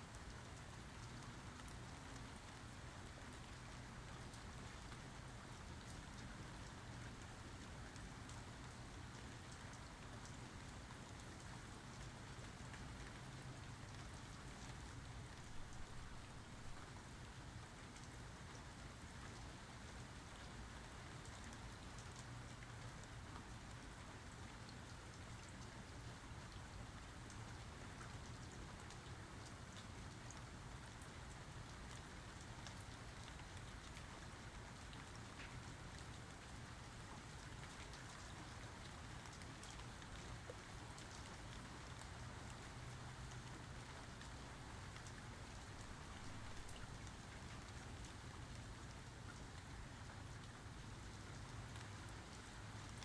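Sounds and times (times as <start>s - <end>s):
faint rainfall: 0.0s - 53.0s.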